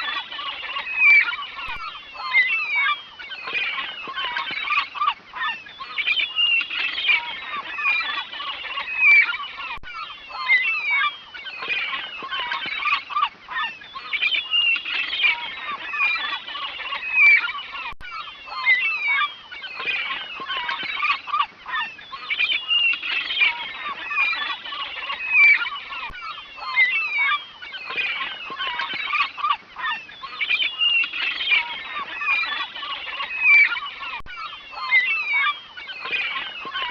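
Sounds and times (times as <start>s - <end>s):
waterfowl calling: 0.0s - 36.9s.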